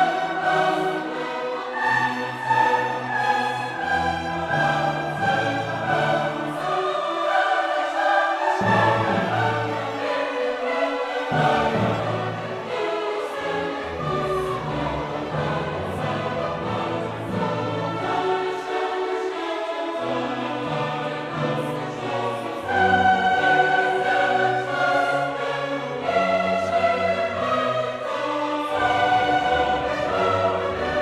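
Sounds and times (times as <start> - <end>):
choir singing: 0.0 - 31.0
orchestra playing classical music: 0.0 - 31.0.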